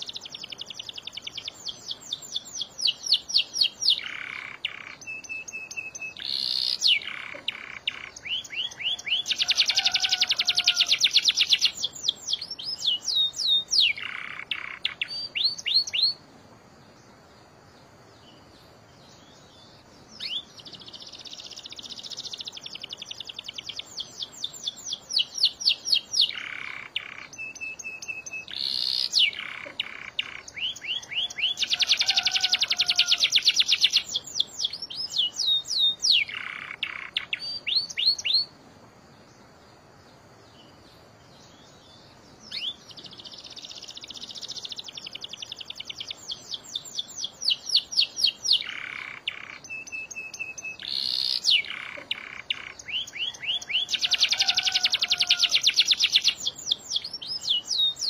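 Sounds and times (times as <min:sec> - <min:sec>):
canary singing trills: 0:00.0 - 0:38.6, 0:39.2 - 0:58.0.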